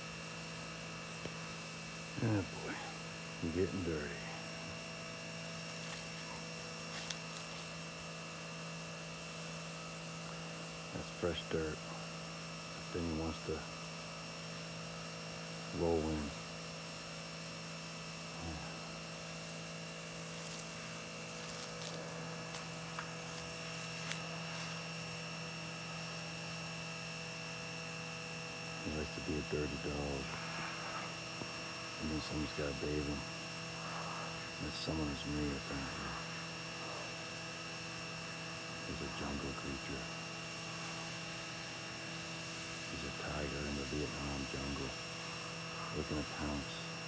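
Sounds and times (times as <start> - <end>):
steady hum with fixed tones: 0.0 - 47.0
thin high whine: 0.0 - 47.0.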